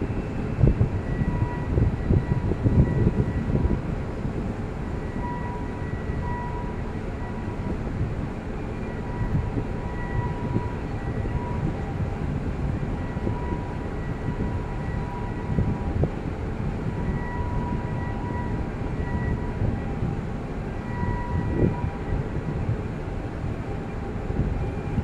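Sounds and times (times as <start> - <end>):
low rumble of a port: 0.0 - 25.0
wind buffeting microphone: 0.0 - 25.0.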